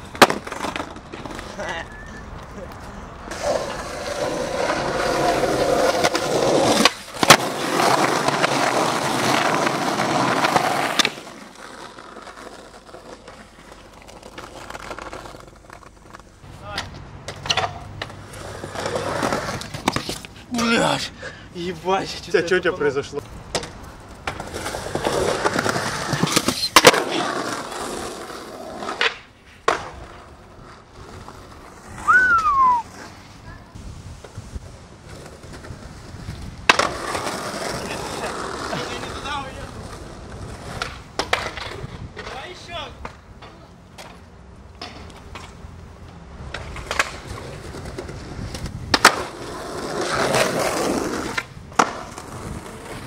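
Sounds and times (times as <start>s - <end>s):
skateboard clacks: 0.0s - 1.6s, 2.4s - 20.3s, 23.5s - 31.8s, 35.0s - 53.0s
skateboard wheels rolling: 0.0s - 53.0s.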